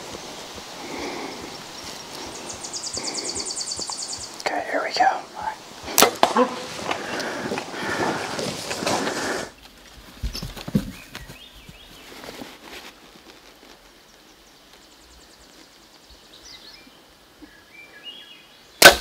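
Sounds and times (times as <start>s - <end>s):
songbirds chirping: 0.0s - 18.9s.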